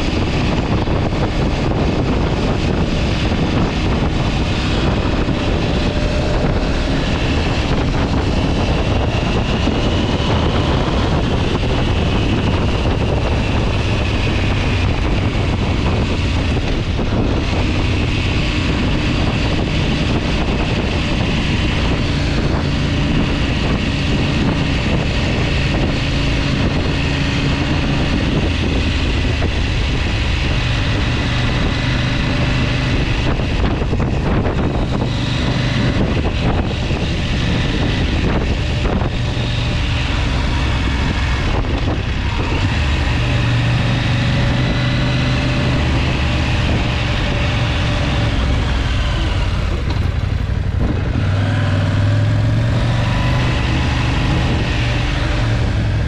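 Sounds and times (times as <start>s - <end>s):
vehicle engine running: 0.0s - 56.0s
wind noise on microphone: 0.0s - 56.0s.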